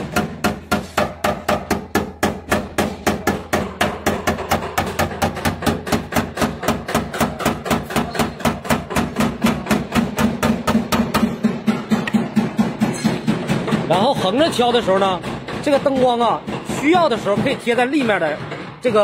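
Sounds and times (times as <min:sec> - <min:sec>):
hammer tapping sheet metal: 0:00.0 - 0:19.0.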